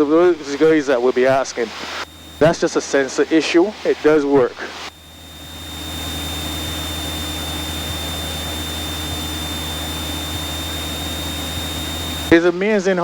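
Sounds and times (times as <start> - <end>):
aircraft engine and propeller drone: 0.0 - 12.5
high-pitched electrical whine: 0.0 - 13.0.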